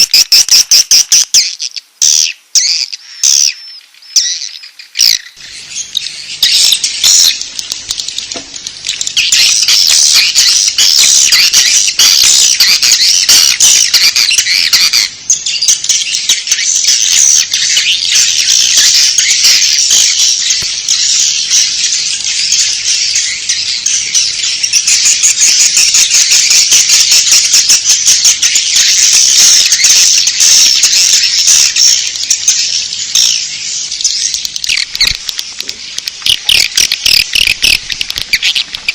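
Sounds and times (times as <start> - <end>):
swiftlets twittering: 5.4 - 33.3, 34.0 - 38.9.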